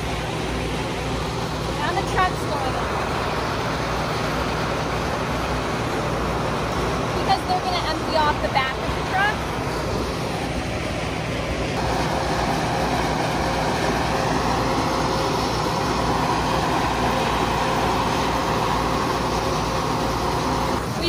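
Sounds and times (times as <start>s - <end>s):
tractor engine driving auger: 0.0s - 21.0s.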